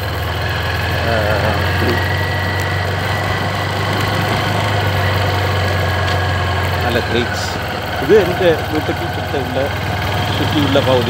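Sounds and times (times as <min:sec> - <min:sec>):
motorcycle engine drone: 0:00.0 - 0:11.0.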